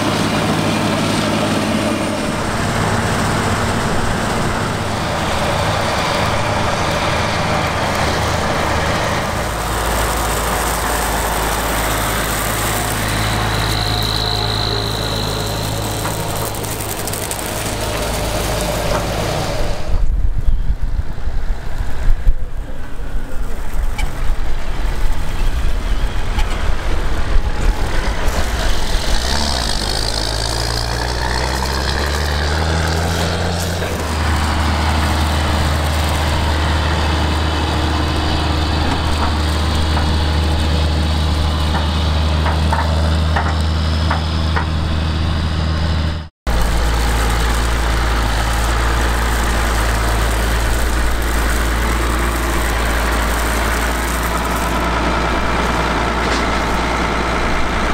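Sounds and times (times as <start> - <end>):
tractor diesel engine droning: 0.0 - 20.2, 21.1 - 57.9.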